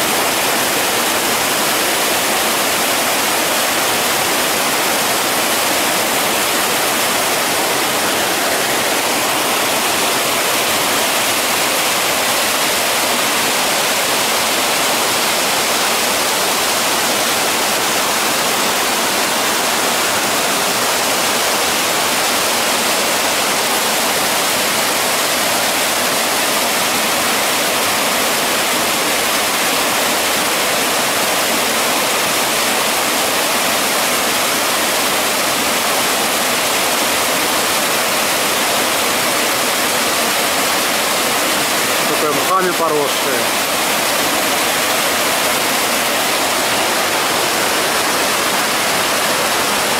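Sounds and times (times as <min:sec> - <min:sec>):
waterfall and river rapids rushing: 0:00.0 - 0:49.9.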